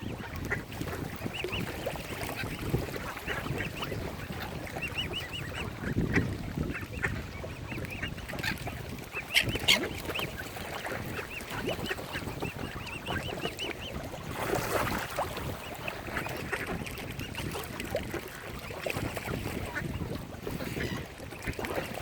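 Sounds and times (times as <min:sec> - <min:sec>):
swans and ducks calling: 0:00.0 - 0:22.0.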